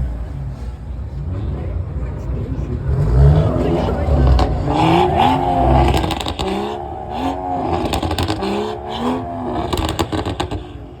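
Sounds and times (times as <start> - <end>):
car engine revving in blips: 0.0 - 11.0.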